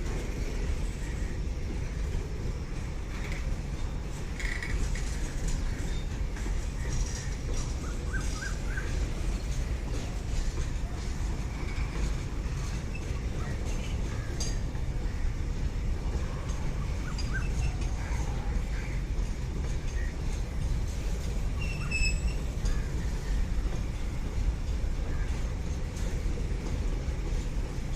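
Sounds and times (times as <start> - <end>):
passenger train rumbling: 0.0 - 27.9.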